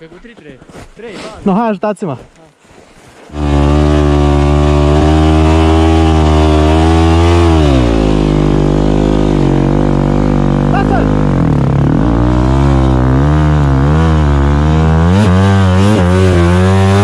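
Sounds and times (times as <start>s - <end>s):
motorcycle engine revving: 3.3s - 17.0s.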